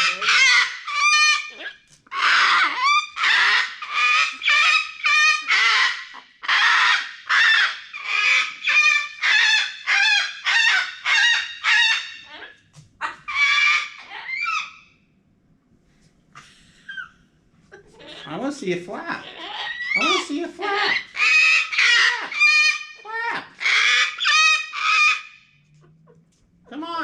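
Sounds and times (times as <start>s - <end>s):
cockatoo squawking: 0.0s - 14.8s, 16.9s - 25.5s.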